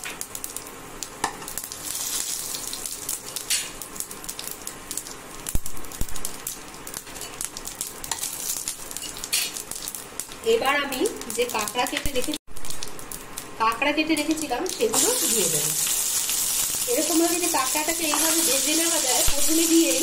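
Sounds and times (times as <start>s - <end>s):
spices sizzling in hot oil: 0.0s - 20.0s.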